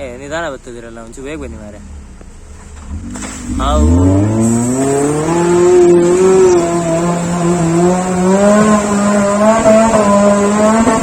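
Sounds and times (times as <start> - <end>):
jeep engine at high revs: 1.2 - 11.0.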